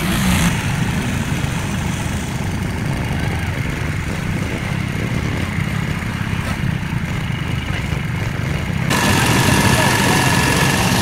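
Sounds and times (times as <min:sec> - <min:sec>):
quad bike engines rumbling: 0:00.0 - 0:11.0.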